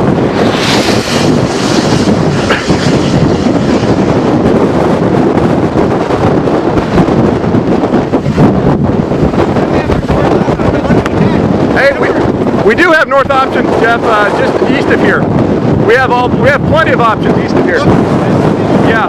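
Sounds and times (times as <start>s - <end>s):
wind blowing across microphone: 0.0s - 19.0s.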